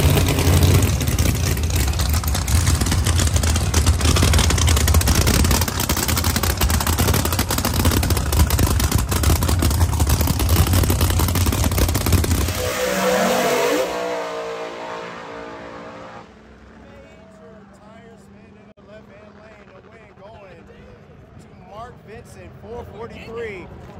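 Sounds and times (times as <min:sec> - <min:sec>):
race car engines running loud: 0:00.0 - 0:23.9.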